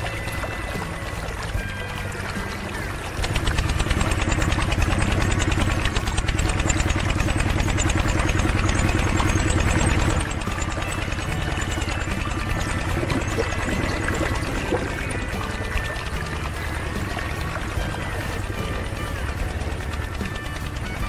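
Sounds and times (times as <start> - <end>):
small water pump engine running: 0.0 - 21.0.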